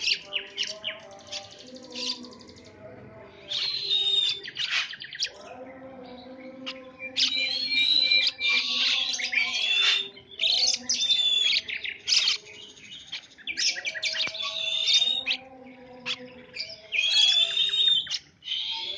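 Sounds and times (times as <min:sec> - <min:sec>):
songbird chirping and warbling: 0:00.0 - 0:18.9.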